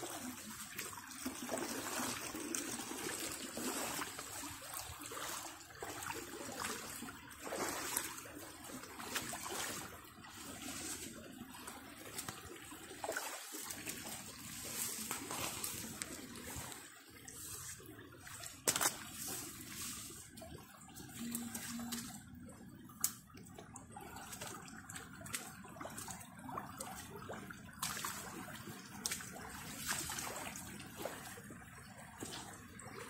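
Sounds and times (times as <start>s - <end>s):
creek water flowing over rocks: 0.0s - 33.0s.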